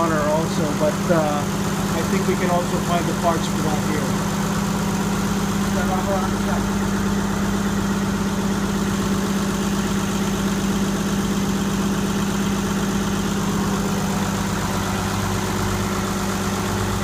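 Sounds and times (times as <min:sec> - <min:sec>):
marine diesel engine running: 0:00.0 - 0:17.0.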